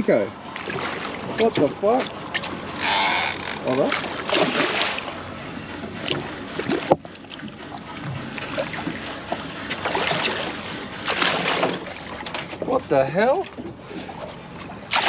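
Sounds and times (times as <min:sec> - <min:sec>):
fish thrashing and splashing: 0:00.5 - 0:05.3, 0:06.0 - 0:12.7, 0:13.4 - 0:15.0.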